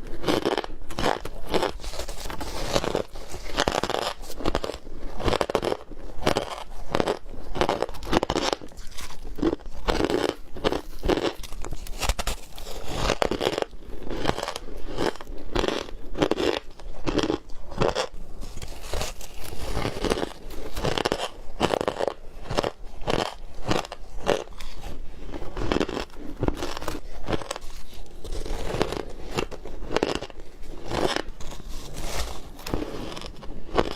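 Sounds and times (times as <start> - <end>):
ice crunching while chewed: 0.0 - 33.9.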